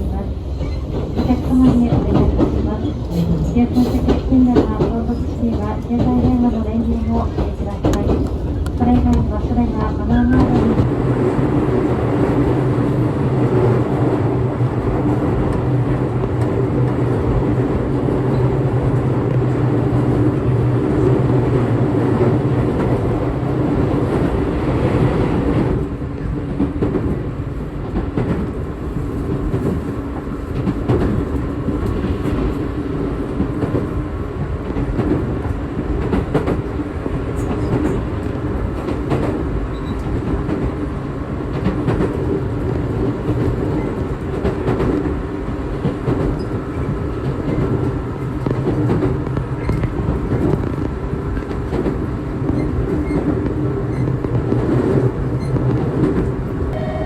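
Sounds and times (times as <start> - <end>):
train electric hum: 0.0 - 57.0
wheels rumbling on rails: 0.0 - 57.0.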